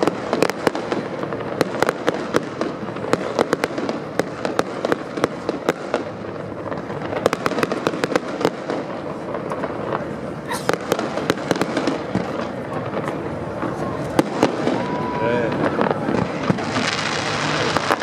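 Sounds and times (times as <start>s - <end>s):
fireworks bangs and pops: 0.0s - 18.0s.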